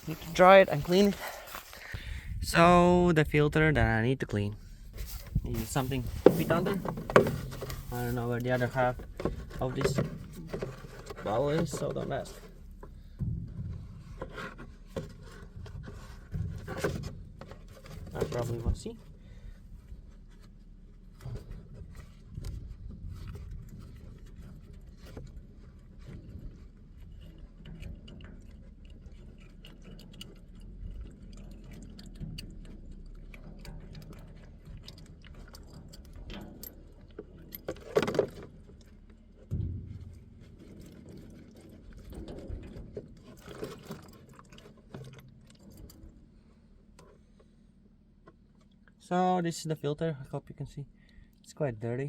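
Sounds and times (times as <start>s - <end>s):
metal clatter: 4.9s - 47.2s.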